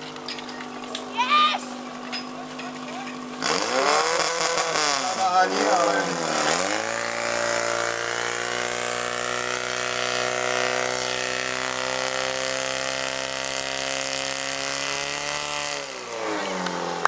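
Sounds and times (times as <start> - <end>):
pump engine running: 0.0 - 17.0.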